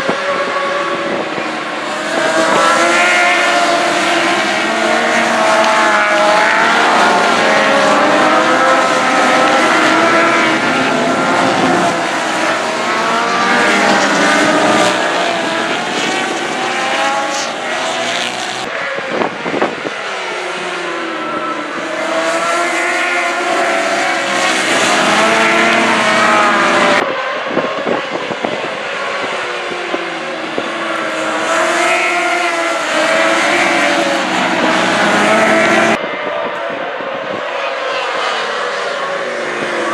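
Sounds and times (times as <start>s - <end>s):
racing motorbikes at high revs: 0.0s - 36.6s, 37.2s - 39.9s.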